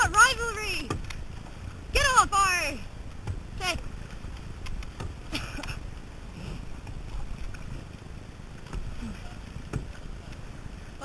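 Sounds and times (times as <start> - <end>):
water and paddling: 0.0 - 11.0
wind rumbling on microphone: 0.0 - 11.0.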